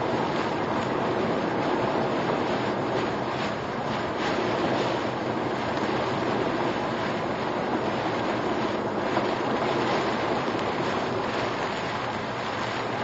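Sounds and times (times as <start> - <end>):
heavy rain on car: 0.0 - 13.0
wind rushing against car: 0.0 - 13.0.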